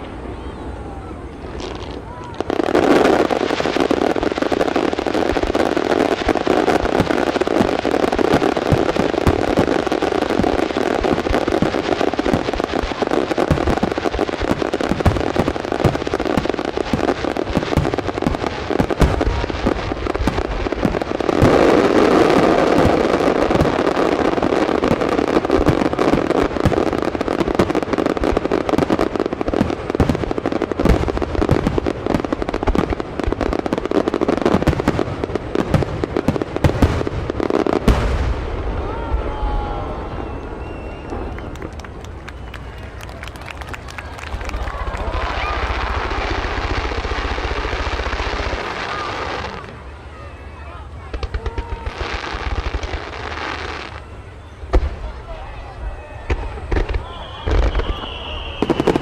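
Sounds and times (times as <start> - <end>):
fireworks crackling: 0.0 - 59.0
fireworks bangs: 1.3 - 50.0, 51.0 - 59.0.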